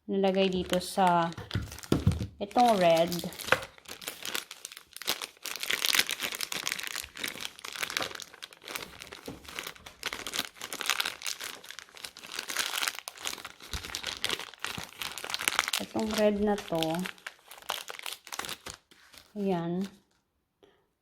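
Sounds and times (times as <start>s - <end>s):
plastic packaging crinkling: 0.3s - 20.2s.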